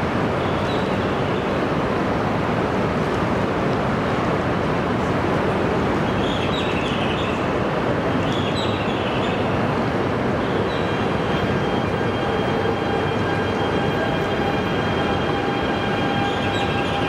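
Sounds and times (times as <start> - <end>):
train equipment rushing hum: 0.0 - 17.0.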